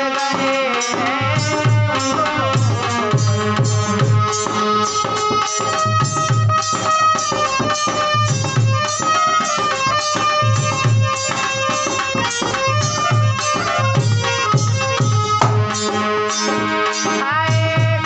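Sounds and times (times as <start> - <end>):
hand drum rhythmic beat: 0.0 - 18.0
harmonium melody: 0.0 - 18.0.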